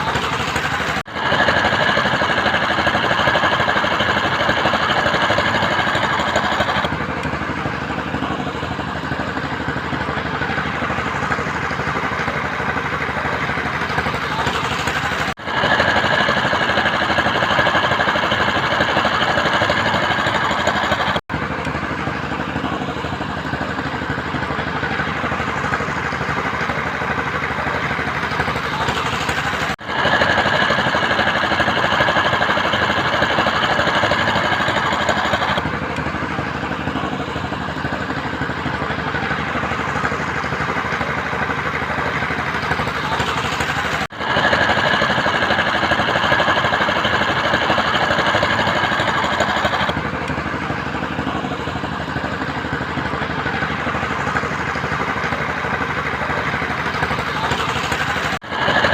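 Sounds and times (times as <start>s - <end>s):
construction machinery engine: 0.0s - 58.9s
high whine: 0.0s - 58.9s.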